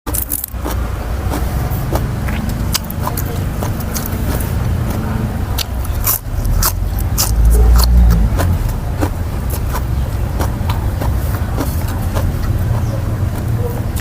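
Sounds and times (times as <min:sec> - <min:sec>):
chewing and crunching food: 0:00.1 - 0:14.0
steady low rumble: 0:00.1 - 0:14.0.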